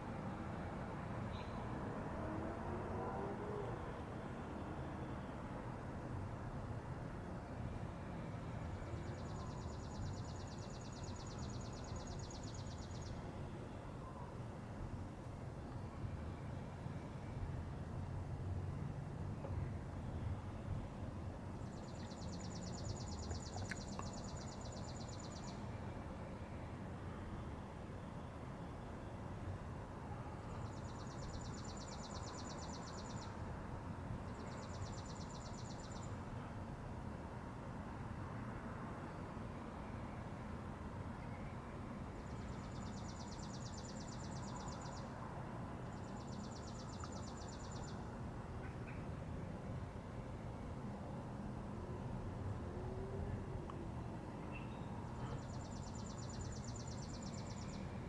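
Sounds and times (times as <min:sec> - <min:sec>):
low rumbling background noise: 0:00.0 - 0:58.0.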